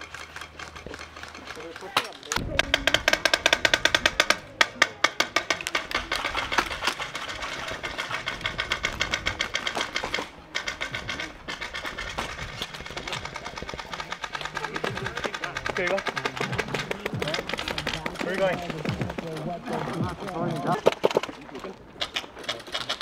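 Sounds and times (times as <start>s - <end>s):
airsoft guns firing automatic: 0.0s - 21.3s.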